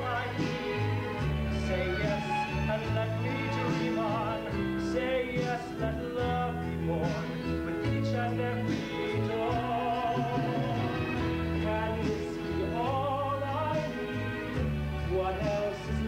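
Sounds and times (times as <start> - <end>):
instrumental accompaniment: 0.0 - 16.0
man singing with vibrato: 0.0 - 16.0.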